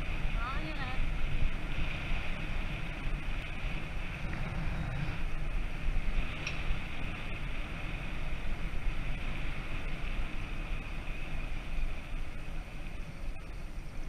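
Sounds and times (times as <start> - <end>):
bicycle tyres rolling on pavement: 0.0 - 14.0
wind buffeting microphone: 0.0 - 14.0.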